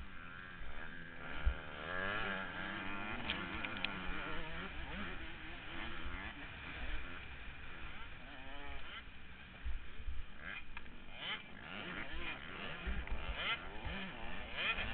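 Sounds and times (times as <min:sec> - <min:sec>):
two-stroke engine revving: 0:00.0 - 0:14.9.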